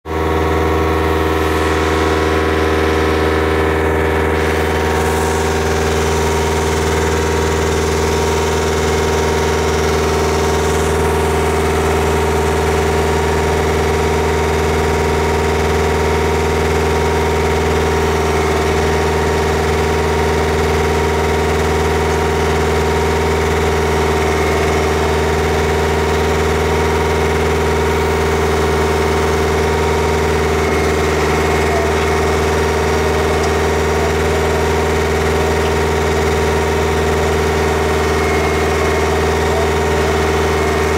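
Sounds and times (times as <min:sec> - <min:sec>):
drilling rig engine idling: 0:00.0 - 0:40.9.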